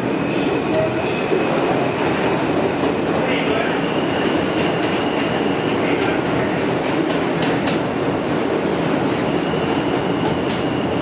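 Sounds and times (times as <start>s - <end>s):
subway wheels rumbling on rail: 0.0s - 11.0s.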